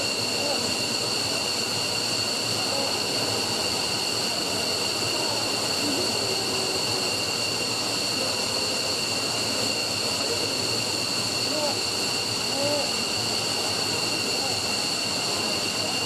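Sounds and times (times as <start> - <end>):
jet engine rushing with high whine: 0.0 - 16.0.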